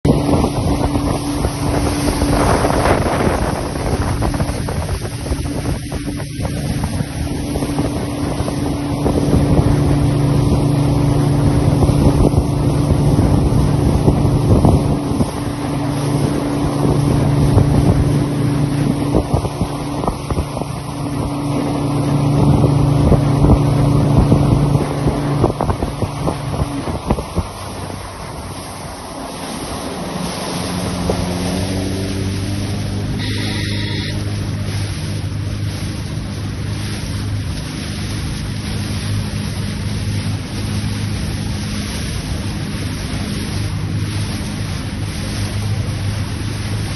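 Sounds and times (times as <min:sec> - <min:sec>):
motorboat engine running: 0:00.0 - 0:46.9
water rushing past hull: 0:00.0 - 0:46.9
wind buffeting microphone: 0:00.0 - 0:46.9.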